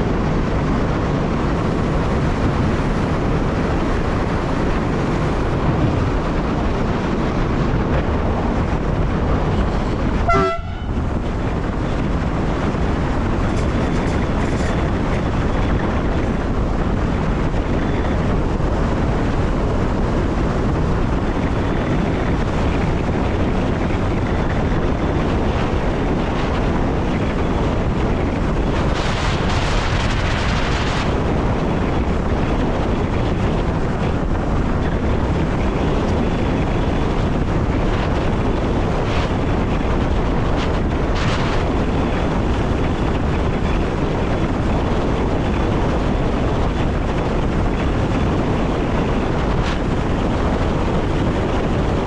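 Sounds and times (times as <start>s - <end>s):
rushing air: 0.0s - 52.0s
wheels rumbling on rail: 0.0s - 52.0s.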